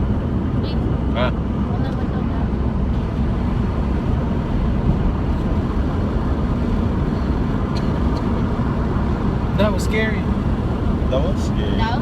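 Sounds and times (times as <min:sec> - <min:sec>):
road noise: 0:00.0 - 0:12.0
wind through open car windows: 0:00.0 - 0:12.0.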